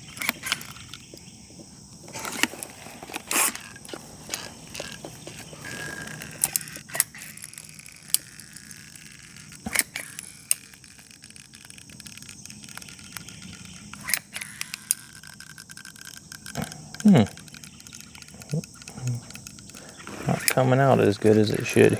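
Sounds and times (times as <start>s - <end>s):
faint steady hum: 0.0s - 21.9s
caulking gun clicking: 0.1s - 1.2s, 3.1s - 21.0s.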